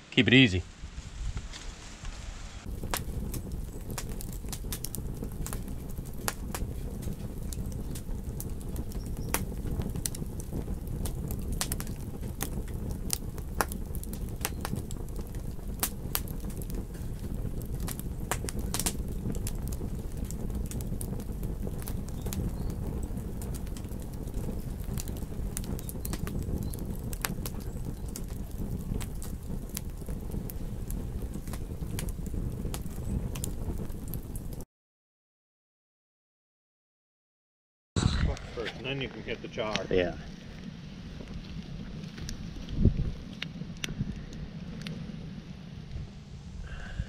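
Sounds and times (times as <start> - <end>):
campfire crackling and popping: 0.1 - 34.6, 38.0 - 47.0
steady low rumble: 0.6 - 34.6, 38.0 - 47.0.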